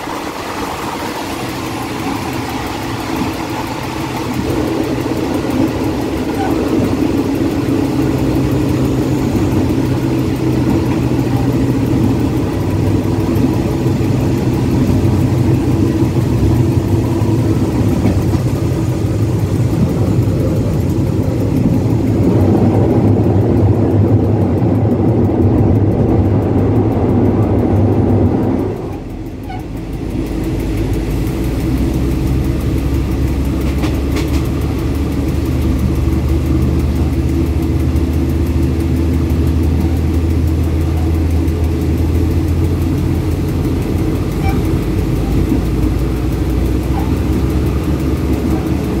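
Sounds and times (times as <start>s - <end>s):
locomotive engine drone: 0.0s - 49.0s
wheel and rail noise: 0.0s - 49.0s.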